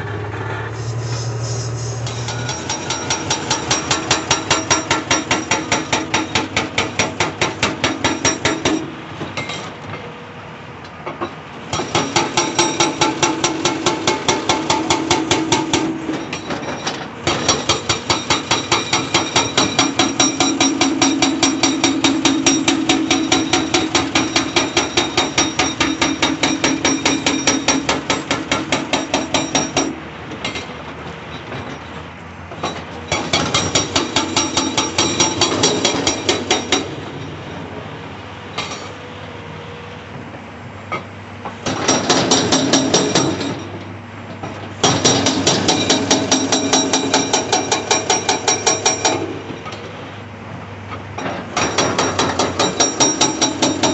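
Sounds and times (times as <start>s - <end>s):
excavator engine running: 0.0s - 53.9s
hydraulic breaker hammering rock: 2.0s - 9.7s, 11.1s - 31.9s, 32.5s - 37.4s, 40.9s - 43.8s, 44.4s - 49.9s, 51.1s - 53.9s.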